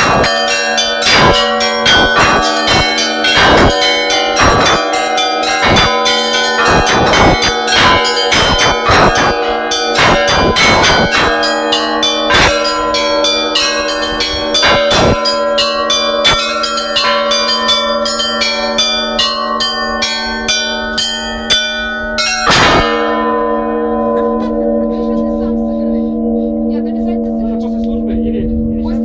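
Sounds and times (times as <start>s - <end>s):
heavy bell stroke: 0.0s - 29.0s
large bells ringing: 0.0s - 29.0s
small church bells ringing quickly: 0.0s - 29.0s.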